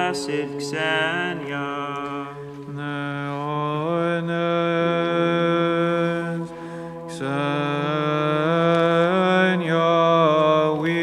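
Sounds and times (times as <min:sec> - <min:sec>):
man chanting long notes: 0:00.0 - 0:11.0.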